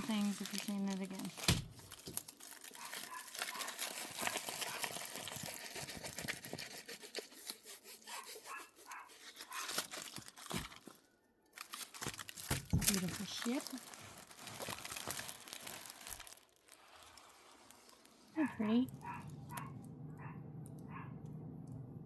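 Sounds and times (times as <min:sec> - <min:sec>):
plastic packaging crinkling: 0:00.0 - 0:19.8.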